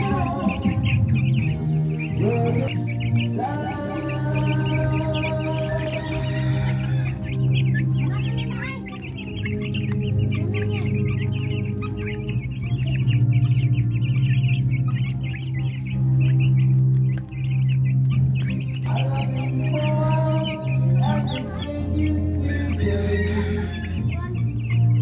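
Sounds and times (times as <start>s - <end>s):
chicks peeping: 0.0s - 25.0s
low background music: 0.0s - 25.0s.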